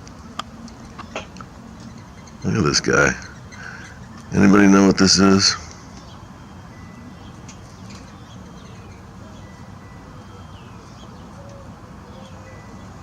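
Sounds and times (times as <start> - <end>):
low outdoor rumble: 0.0 - 13.0
faint bird calls: 0.7 - 13.0.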